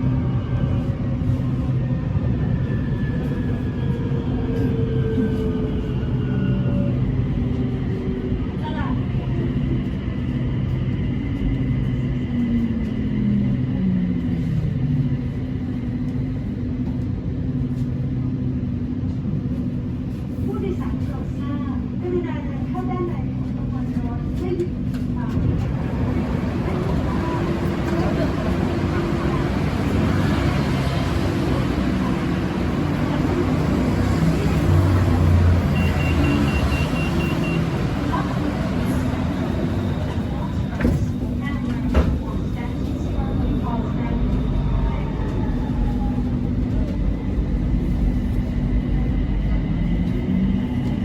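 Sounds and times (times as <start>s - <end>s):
electric train rumbling: 0.0s - 51.0s.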